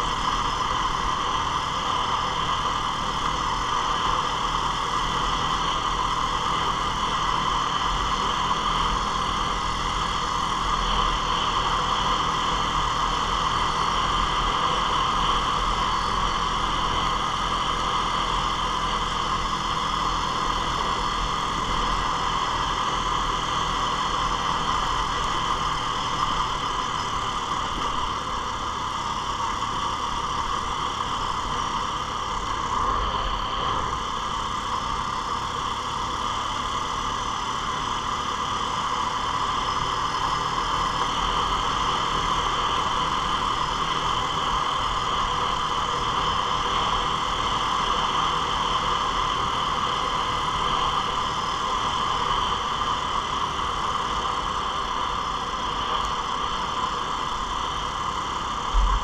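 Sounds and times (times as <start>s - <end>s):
atv engine running: 0.0s - 59.0s
drivetrain whine: 0.0s - 59.0s.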